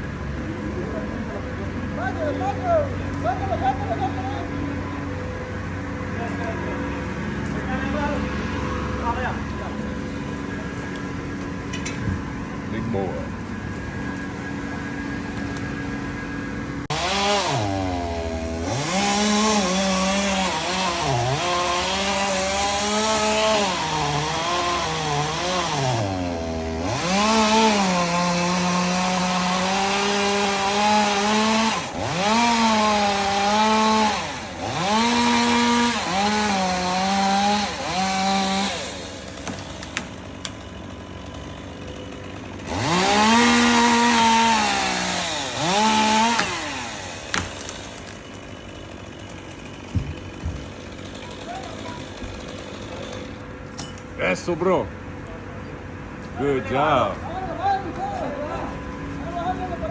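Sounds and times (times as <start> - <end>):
chainsaw cutting wood: 4.6 - 54.8.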